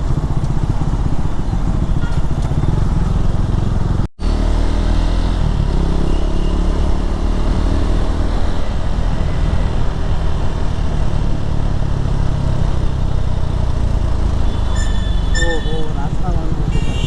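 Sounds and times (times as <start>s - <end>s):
motorcycle engine running: 0.0s - 15.3s
road and wind noise: 0.0s - 17.0s.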